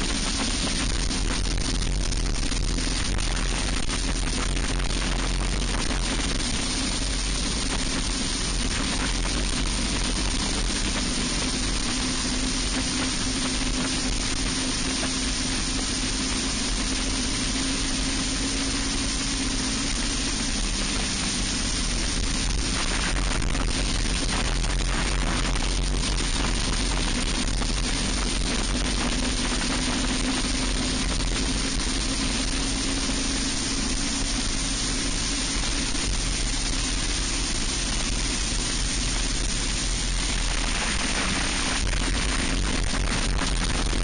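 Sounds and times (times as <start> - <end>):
kart engine at racing speed: 0.0 - 44.0
wind rush over microphone: 0.0 - 44.0.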